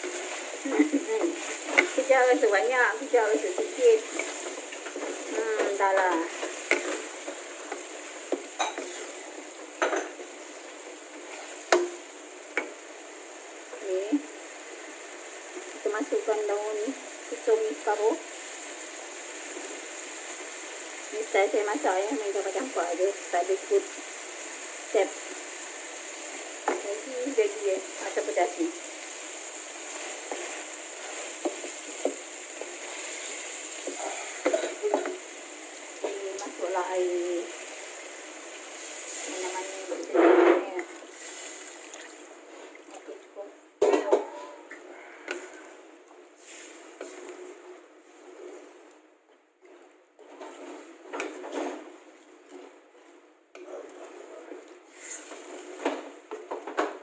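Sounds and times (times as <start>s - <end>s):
sizzling hiss: 0.0s - 42.7s, 44.8s - 48.8s, 54.9s - 56.1s.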